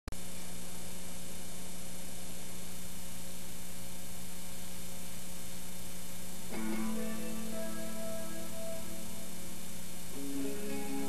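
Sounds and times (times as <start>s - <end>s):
constant hiss: 0.2s - 11.0s
electrical hum: 0.2s - 11.0s.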